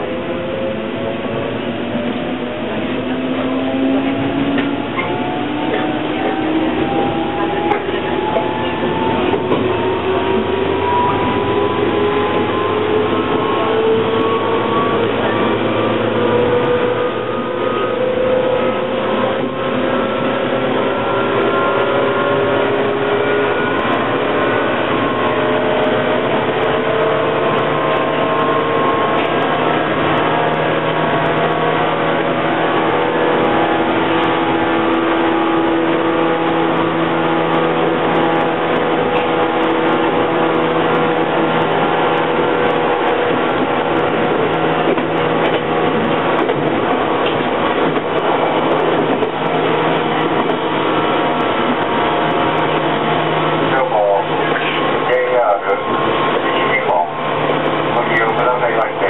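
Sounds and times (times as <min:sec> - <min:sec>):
train motor whine: 0:00.0 - 0:59.0
wheels rumbling on rail: 0:00.0 - 0:59.0.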